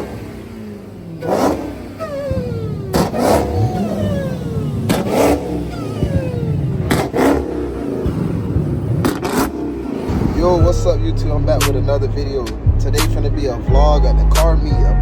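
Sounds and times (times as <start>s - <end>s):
car engine revving: 0.0s - 15.0s
sharp exhaust cracks: 0.0s - 15.0s.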